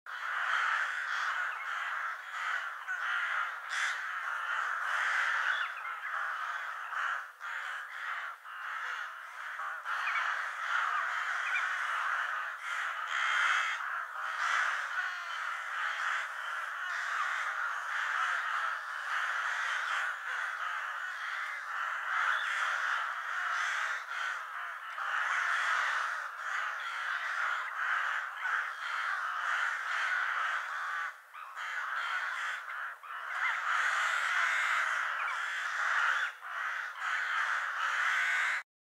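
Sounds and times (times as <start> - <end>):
crows cawing: 0.1 - 38.7.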